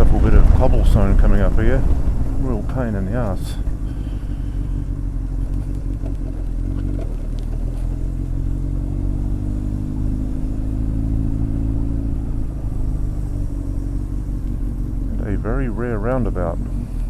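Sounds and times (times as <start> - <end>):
motorcycle engine cruising: 0.0 - 17.0.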